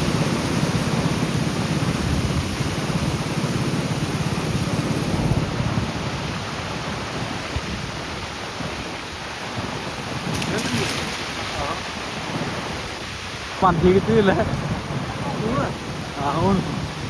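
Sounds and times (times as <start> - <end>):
heavy churning rumble: 0.0 - 7.9, 9.5 - 17.0
roar of rushing floodwater: 0.0 - 17.0.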